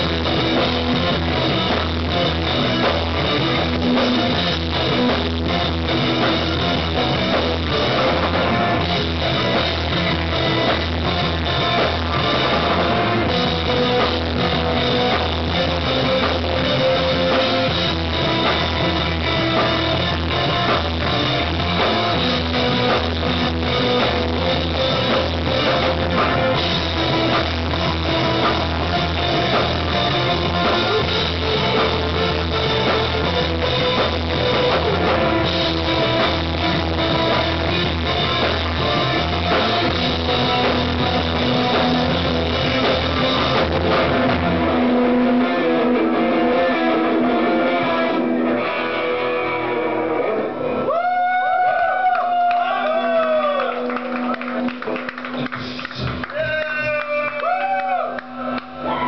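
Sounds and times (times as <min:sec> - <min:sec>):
drum kit: 0:00.0 - 0:51.6, 0:52.3 - 0:59.0
electric guitars: 0:00.0 - 0:59.0.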